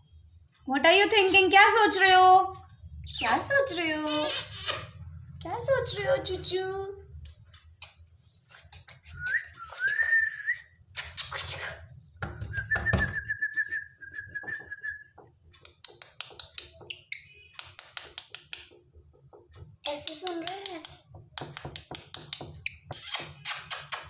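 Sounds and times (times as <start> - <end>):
scratchy chirps and clicks: 2.6 - 6.5, 7.2 - 12.1, 13.4 - 24.0.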